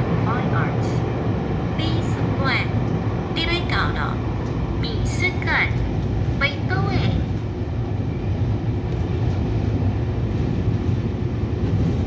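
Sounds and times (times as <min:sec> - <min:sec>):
train carriage running rumble: 0:00.0 - 0:12.0.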